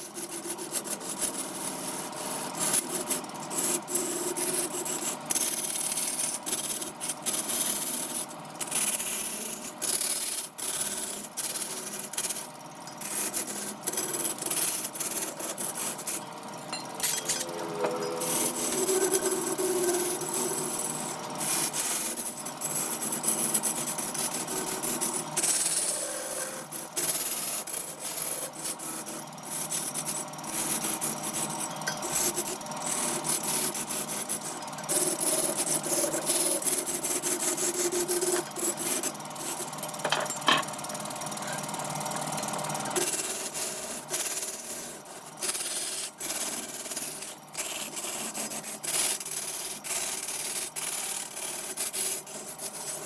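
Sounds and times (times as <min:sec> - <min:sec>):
lathe tool scraping spinning wood: 0:09.3 - 0:53.0.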